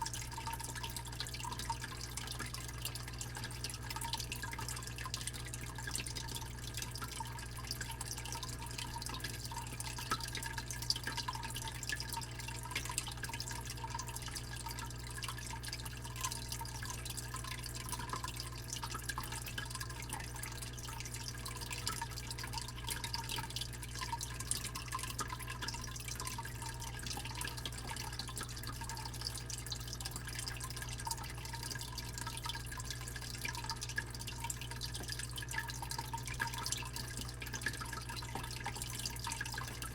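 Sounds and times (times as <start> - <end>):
fish tank pump humming: 0.0 - 39.9
water dripping and splashing: 0.0 - 39.9
water trickling: 0.0 - 39.9.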